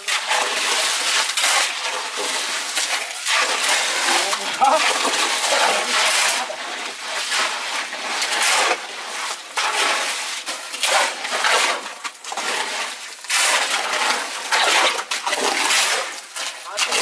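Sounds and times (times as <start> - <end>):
shovels scraping wet concrete: 0.0 - 17.0.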